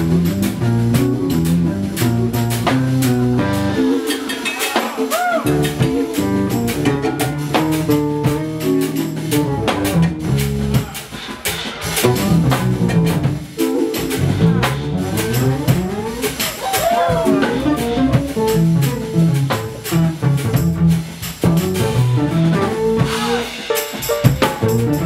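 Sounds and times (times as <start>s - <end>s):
electric bass: 0.0s - 4.2s, 5.4s - 11.0s, 12.0s - 25.0s
drum kit: 0.0s - 25.0s
jazz fusion band playing: 0.0s - 25.0s.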